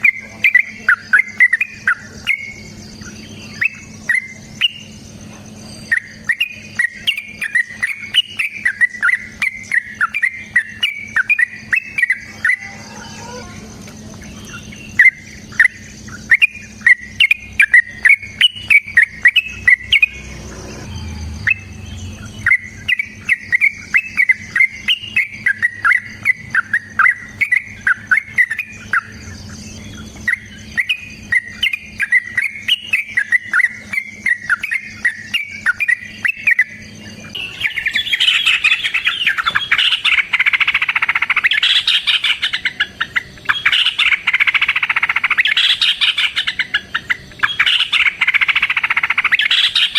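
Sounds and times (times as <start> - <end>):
bird singing bubbling chirps: 0.0 - 49.9.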